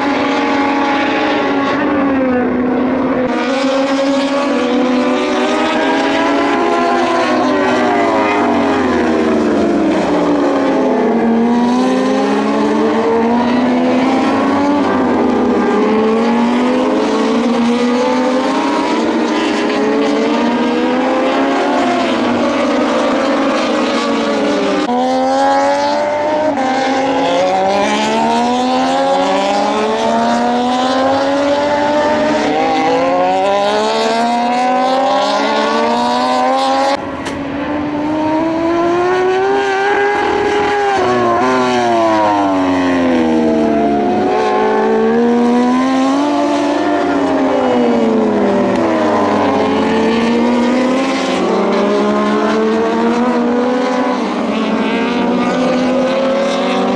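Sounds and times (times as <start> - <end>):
racing motorcycles passing: 0.0 - 56.9.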